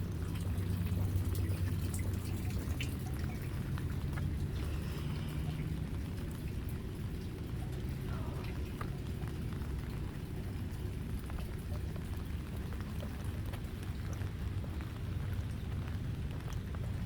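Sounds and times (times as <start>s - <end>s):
continuous low rumble: 0.0s - 17.0s
raindrops ticking: 0.0s - 17.0s
steady rain: 0.0s - 17.0s.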